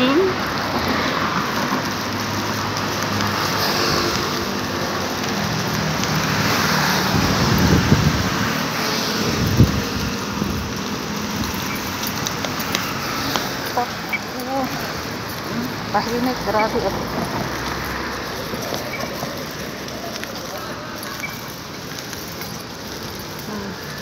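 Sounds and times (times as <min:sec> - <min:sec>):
light road traffic: 0:00.0 - 0:24.0.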